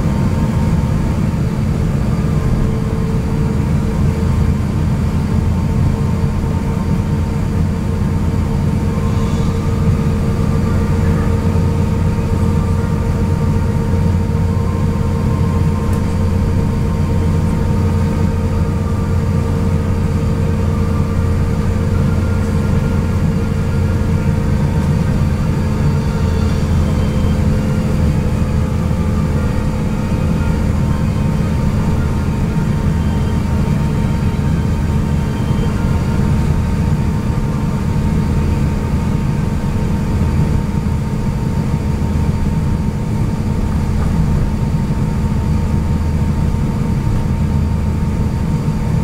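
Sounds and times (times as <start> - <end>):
aircraft cabin low rumble: 0.0 - 49.0.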